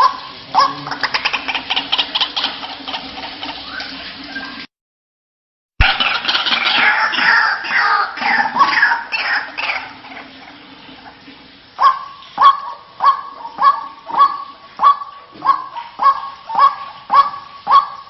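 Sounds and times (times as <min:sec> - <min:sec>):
waterhen calling: 0:00.0 - 0:04.7, 0:05.8 - 0:18.0.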